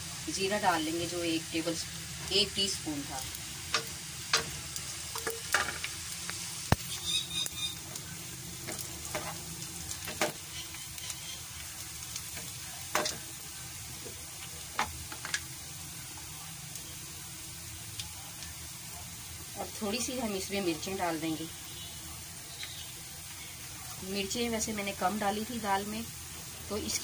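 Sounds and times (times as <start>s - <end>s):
onions sizzling in hot oil: 0.0s - 27.0s.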